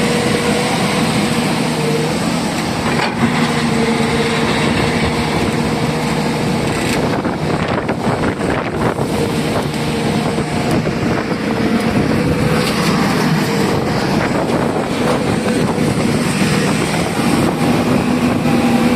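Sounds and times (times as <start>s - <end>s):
heavy diesel engine running: 0.0s - 18.9s.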